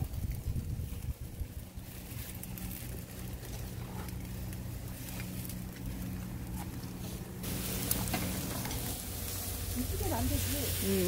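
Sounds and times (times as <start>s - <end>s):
low steady hum: 0.0s - 11.0s
wood fire crackling: 0.0s - 11.0s.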